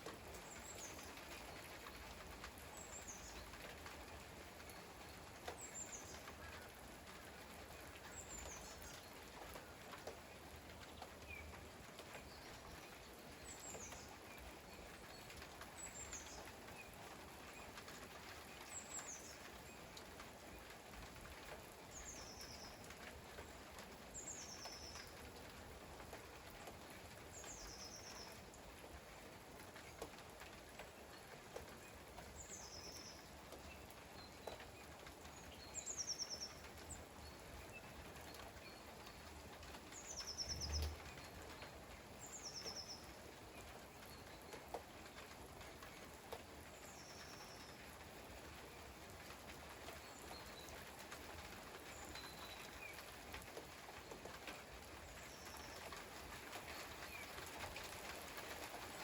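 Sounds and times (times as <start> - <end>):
faint rain hiss: 0.0 - 59.0.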